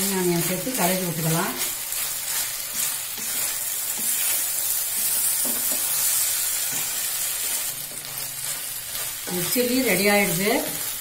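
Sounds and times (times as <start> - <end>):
food sizzling in a pan: 0.0 - 11.0
wooden spatula stirring in pan: 0.0 - 11.0.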